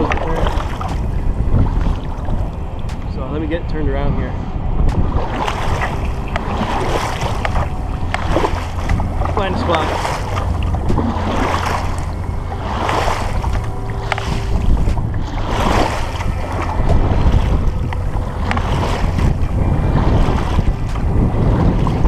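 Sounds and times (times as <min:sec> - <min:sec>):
paddle strokes splashing water: 0:00.0 - 0:03.6, 0:04.7 - 0:22.0
wind rumble on microphone: 0:00.0 - 0:22.0.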